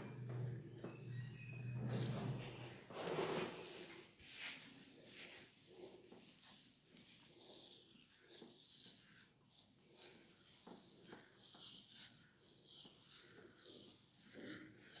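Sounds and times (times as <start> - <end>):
fingertips rubbing through hair: 0.0 - 15.0.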